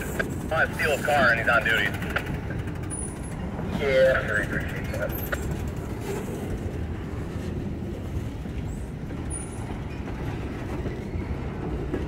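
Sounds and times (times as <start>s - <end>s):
freight train rolling on rails: 0.0s - 12.0s.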